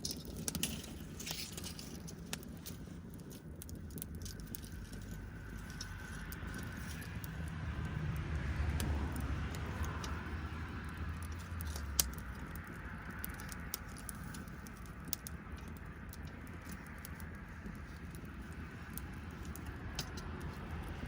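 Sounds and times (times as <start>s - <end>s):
campfire crackling and popping: 0.0s - 21.0s
low rumble: 0.0s - 21.0s.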